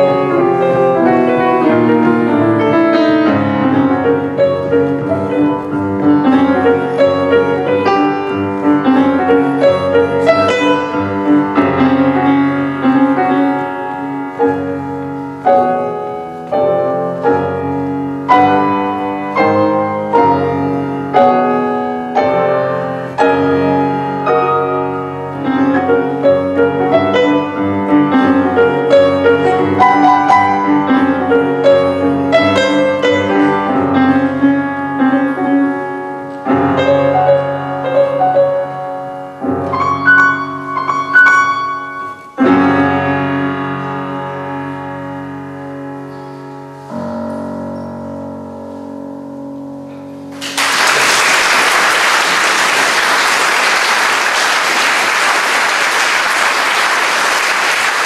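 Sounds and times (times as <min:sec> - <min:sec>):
solo jazz piano: 0:00.0 - 0:50.7.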